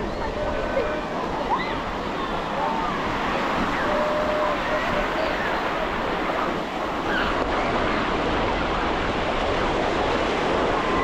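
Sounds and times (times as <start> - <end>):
waves breaking on beach: 0.0 - 11.0
wind buffeting microphone: 0.0 - 11.0.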